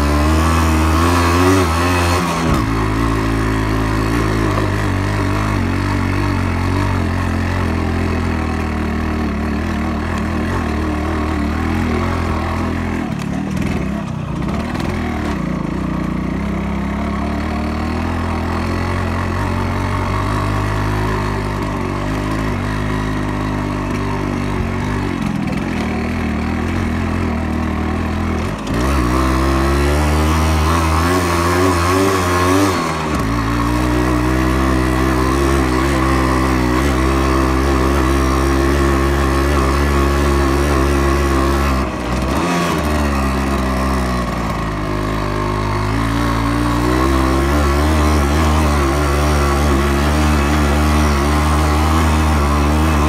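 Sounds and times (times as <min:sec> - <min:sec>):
motorcycle two-stroke engine running: 0:00.0 - 0:53.0.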